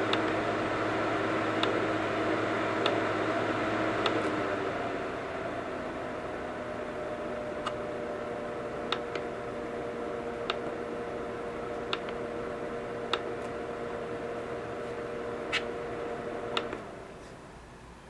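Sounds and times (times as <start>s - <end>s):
humidifier hissing: 0.0s - 18.0s.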